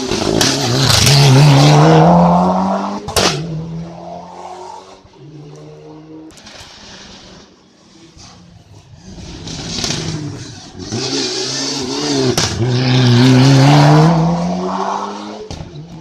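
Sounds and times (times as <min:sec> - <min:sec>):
race car engine revving: 0:00.0 - 0:16.0.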